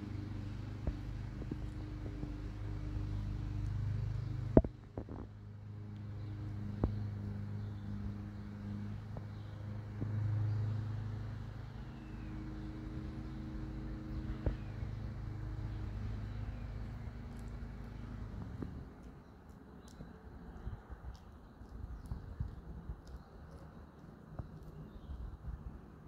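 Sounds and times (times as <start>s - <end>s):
motor vehicle engine hum: 0.0s - 26.0s.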